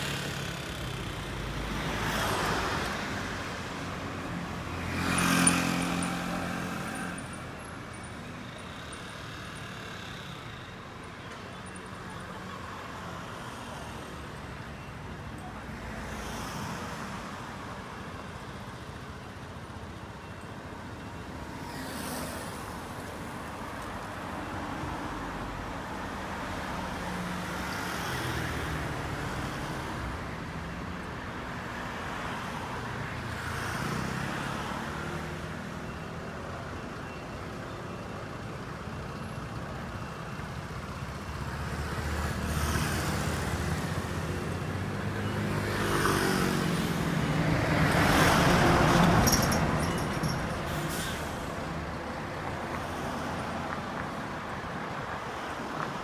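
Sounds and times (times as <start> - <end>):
road noise: 0.0 - 56.0
scooters and cars passing: 0.0 - 56.0.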